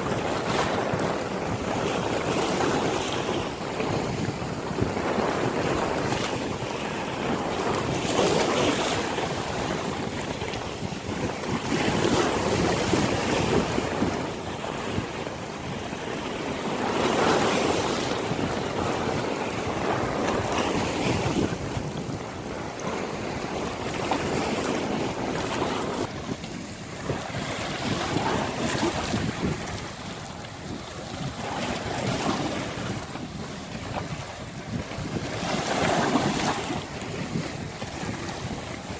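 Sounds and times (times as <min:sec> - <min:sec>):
waves breaking: 0:00.0 - 0:38.9
wind buffeting microphone: 0:00.0 - 0:38.9.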